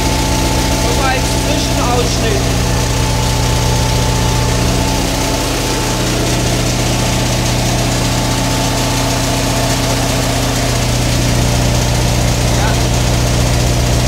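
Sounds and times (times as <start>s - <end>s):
air compressor humming: 0.0s - 14.0s.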